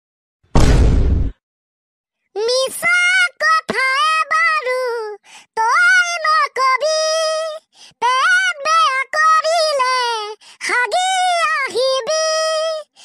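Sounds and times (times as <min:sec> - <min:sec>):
pitched-up cartoon voice singing: 0:02.4 - 0:13.0.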